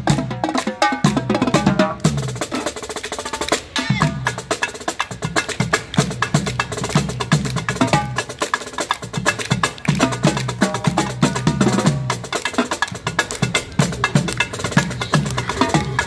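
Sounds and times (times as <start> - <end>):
marching drumline playing: 0.0 - 16.0.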